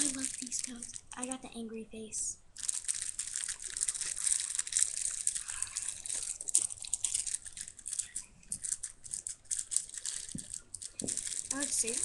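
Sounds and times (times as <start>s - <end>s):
plastic packaging crinkling: 0.0s - 1.4s, 2.6s - 12.0s.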